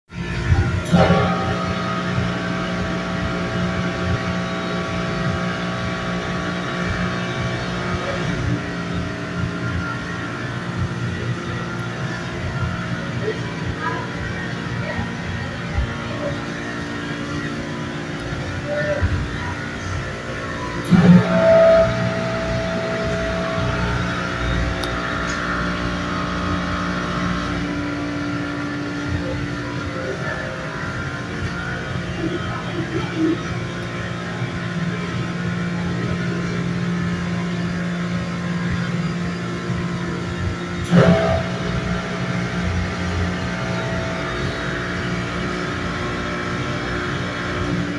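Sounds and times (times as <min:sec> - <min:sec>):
electrical buzzing hum: 0:00.1 - 0:47.9
low rumble: 0:00.2 - 0:47.6.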